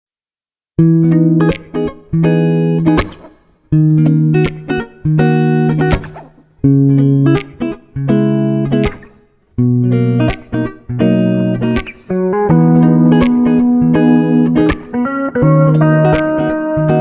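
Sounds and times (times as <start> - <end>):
plucked guitar chords: 0.8 - 17.0.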